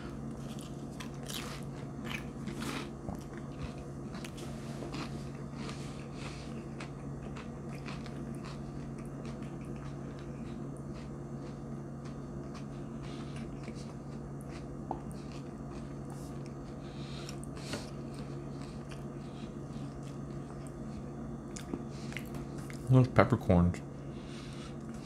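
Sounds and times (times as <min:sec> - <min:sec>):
person chewing with crunches: 0:00.0 - 0:23.0, 0:24.1 - 0:25.0
steady low hum: 0:00.0 - 0:25.0.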